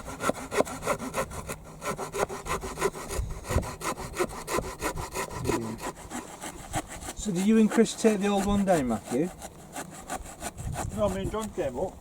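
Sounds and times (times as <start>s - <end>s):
hand saw cutting wood: 0.0s - 12.0s.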